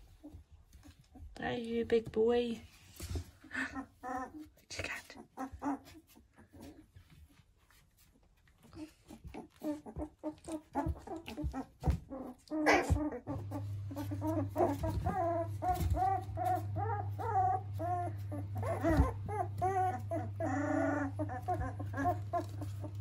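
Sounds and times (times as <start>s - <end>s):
puppies squeaking and whining: 0.0s - 1.4s, 3.0s - 23.0s.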